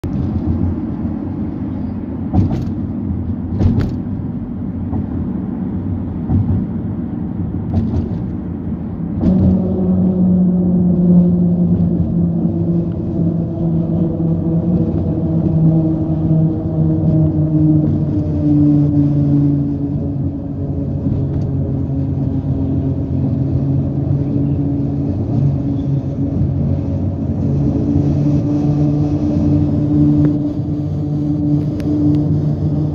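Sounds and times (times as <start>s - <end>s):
tyre and road rumble: 0.0s - 32.9s.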